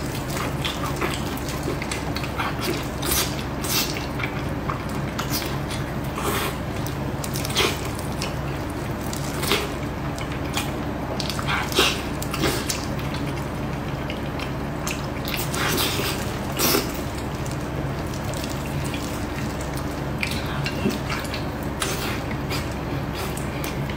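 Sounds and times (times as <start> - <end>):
steady low hum: 0.0 - 23.9
wet chewing and smacking: 0.0 - 23.9.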